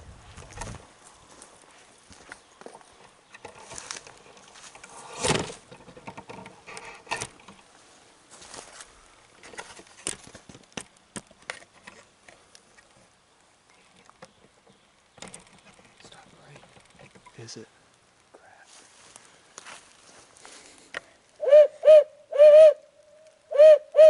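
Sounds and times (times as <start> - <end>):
rustling: 0.0 - 21.5.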